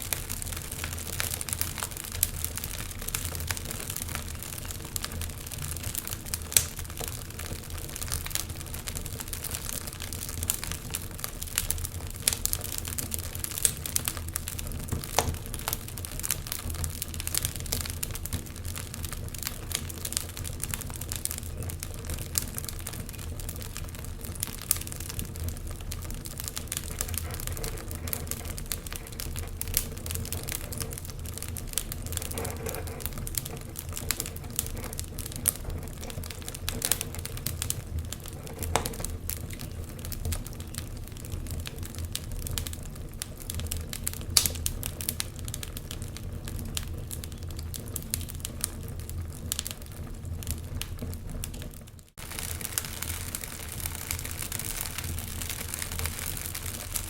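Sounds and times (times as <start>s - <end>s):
sharp snaps and pops: 0.0s - 57.0s
wood fire crackling: 0.0s - 57.0s.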